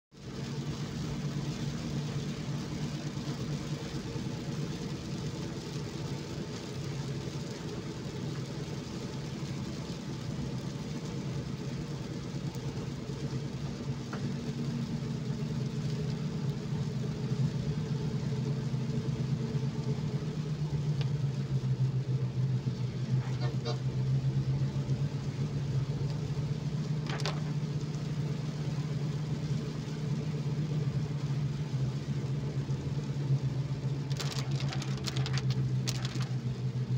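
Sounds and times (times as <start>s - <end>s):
tyre noise on wet road: 0.1s - 36.9s
car engine humming: 0.2s - 36.9s.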